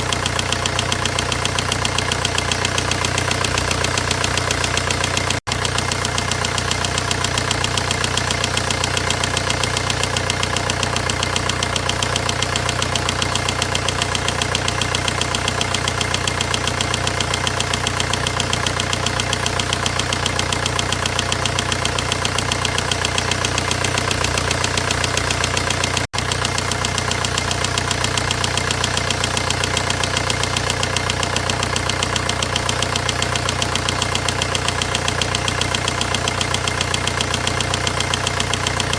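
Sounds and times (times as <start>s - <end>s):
diesel engine idling with clatter: 0.0s - 38.9s.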